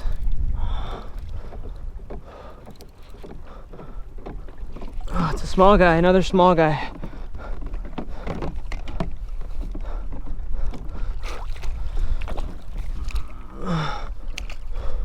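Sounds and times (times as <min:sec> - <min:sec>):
water around kayak: 0:00.0 - 0:15.0
wind buffeting microphone: 0:00.0 - 0:15.0.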